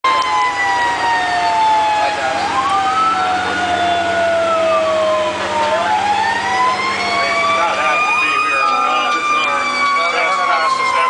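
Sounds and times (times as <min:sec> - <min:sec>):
fire engine siren wailing: 0:00.0 - 0:11.0.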